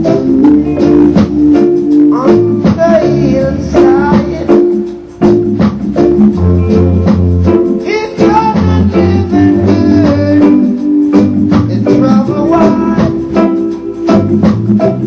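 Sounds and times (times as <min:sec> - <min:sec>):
reggae music with guitar: 0:00.0 - 0:15.0.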